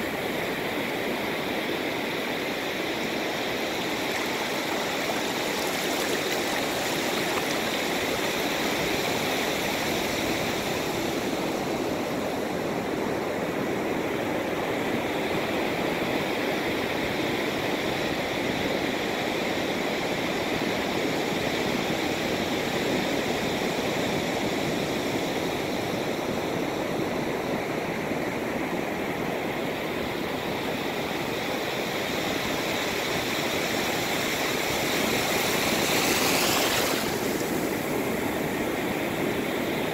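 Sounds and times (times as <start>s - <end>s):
ocean surf washing over sand: 0.0s - 39.9s.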